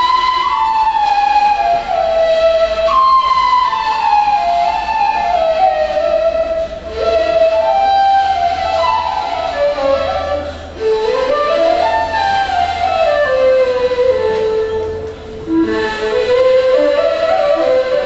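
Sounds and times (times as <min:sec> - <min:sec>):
end-blown flutes playing slow melody: 0:00.0 - 0:18.0.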